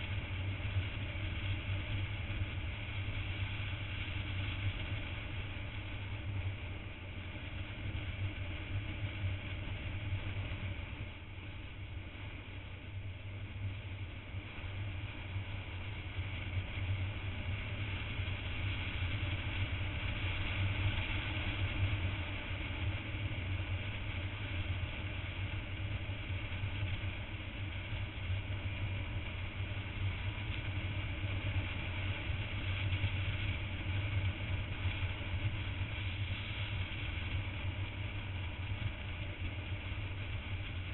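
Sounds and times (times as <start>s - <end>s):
wind rush on microphone: 0.0s - 40.9s.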